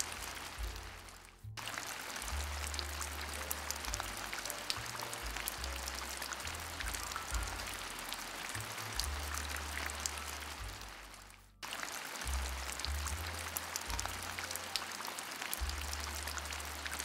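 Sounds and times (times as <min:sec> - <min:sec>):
low bass line: 0:00.0 - 0:01.6, 0:02.3 - 0:11.6, 0:12.3 - 0:14.5, 0:15.6 - 0:17.0
rain pattering on a car: 0:00.0 - 0:17.0.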